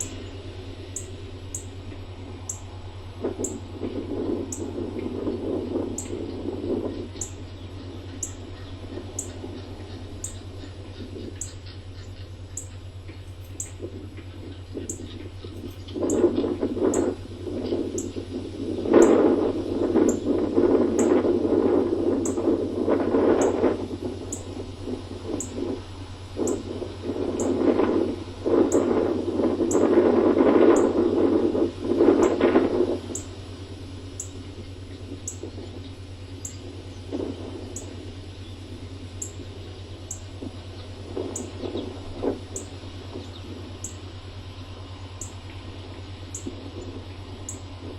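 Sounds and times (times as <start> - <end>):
gust of wind: 0.0 - 11.6, 13.3 - 47.9
steady low hum: 0.0 - 47.9.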